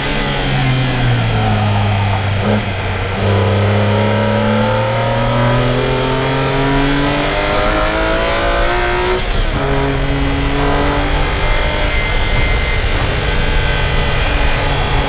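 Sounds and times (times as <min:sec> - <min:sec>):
car engine revving at full throttle: 0:00.0 - 0:15.0.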